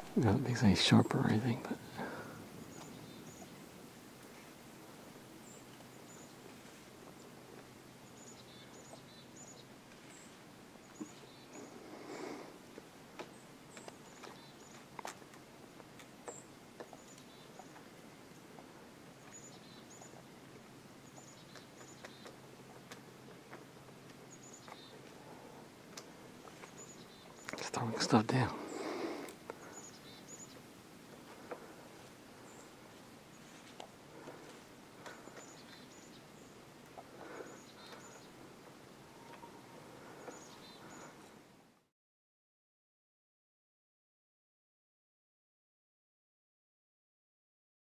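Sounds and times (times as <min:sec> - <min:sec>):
small birds chirping: 0:00.0 - 0:41.8
faint outdoor hiss: 0:00.0 - 0:41.9.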